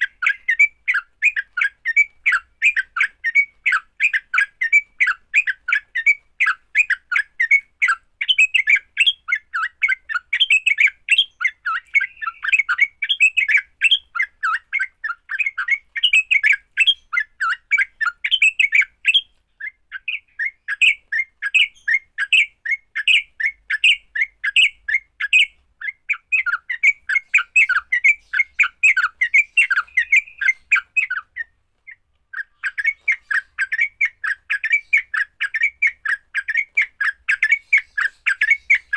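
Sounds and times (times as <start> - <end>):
birds chattering rapidly: 0.0 - 38.9.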